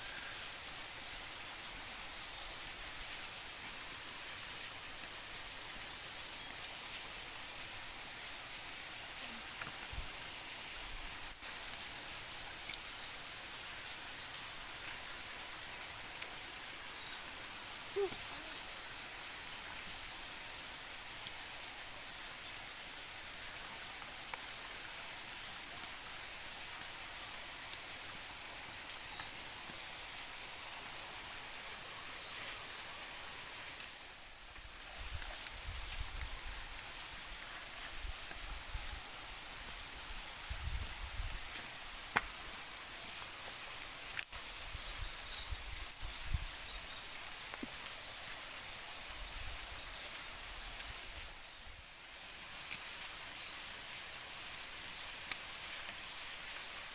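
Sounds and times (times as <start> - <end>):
insects shrilling: 0.0 - 56.9.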